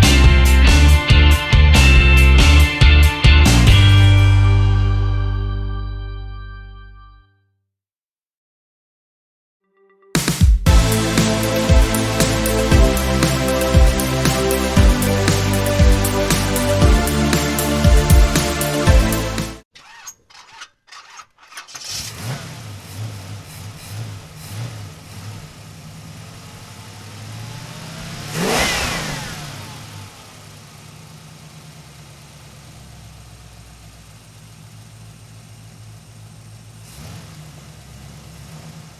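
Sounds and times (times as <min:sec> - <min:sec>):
car engine starting and revving: 0:00.0 - 0:05.4, 0:10.7 - 0:19.6, 0:20.3 - 0:38.9.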